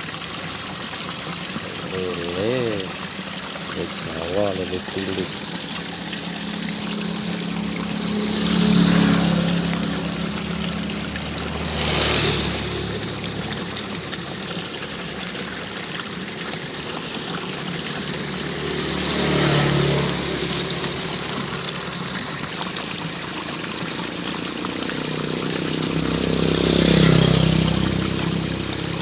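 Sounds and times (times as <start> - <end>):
water rushing in a ditch: 0.0 - 29.0.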